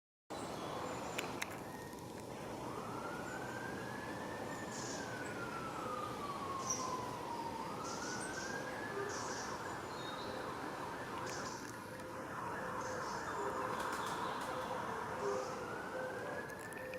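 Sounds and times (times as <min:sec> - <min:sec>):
emergency vehicle siren wailing: 0:00.8 - 0:16.9.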